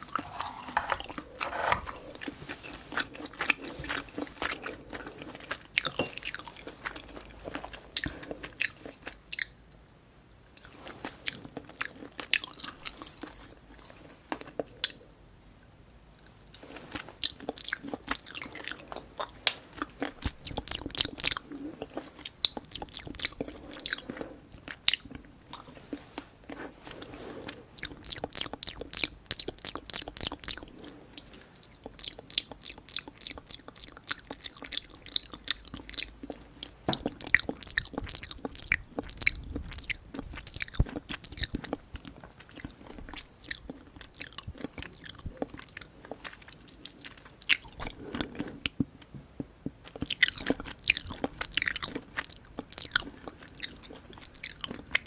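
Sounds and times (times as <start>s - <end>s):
person chewing food: 0.0s - 9.6s, 10.4s - 15.2s, 16.2s - 55.0s.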